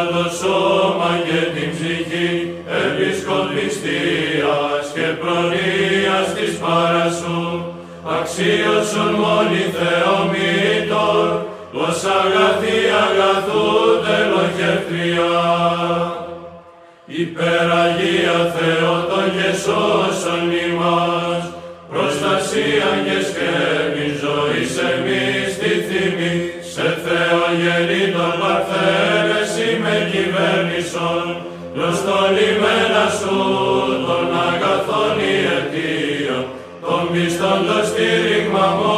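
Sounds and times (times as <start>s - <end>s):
men's choir chanting: 0.0s - 38.9s.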